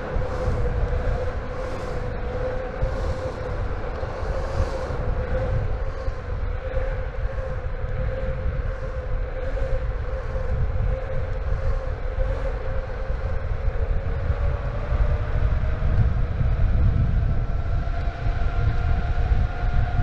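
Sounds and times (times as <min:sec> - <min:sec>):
wind rumble: 0:00.0 - 0:20.0.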